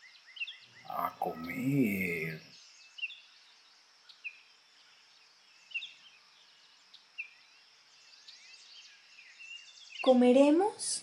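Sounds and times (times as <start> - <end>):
high insect hiss: 0.0 - 10.0.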